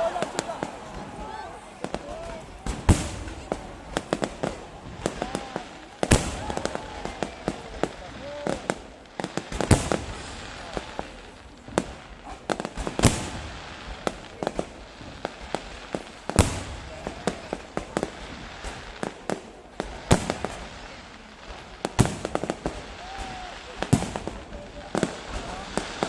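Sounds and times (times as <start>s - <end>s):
fireworks banging: 0.0s - 26.0s
fireworks popping and crackling: 0.0s - 26.0s.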